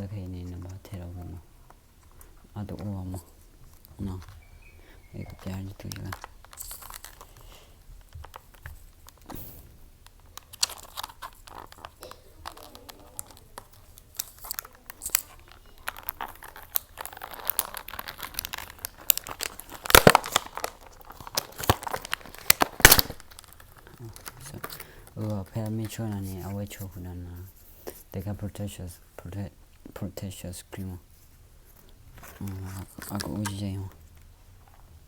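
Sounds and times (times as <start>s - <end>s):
thin plastic crinkling: 0.0s - 35.0s.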